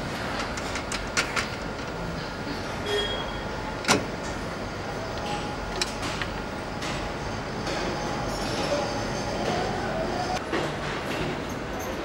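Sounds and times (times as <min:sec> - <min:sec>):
assembly line hall noise: 0:00.0 - 0:12.0.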